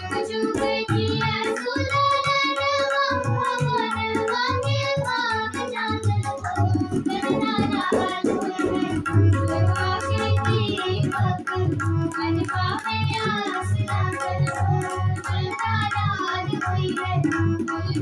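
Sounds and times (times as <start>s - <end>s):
harmonium chords: 0.0s - 18.0s
tabla beat: 0.0s - 18.0s
girls singing in unison: 0.1s - 17.2s.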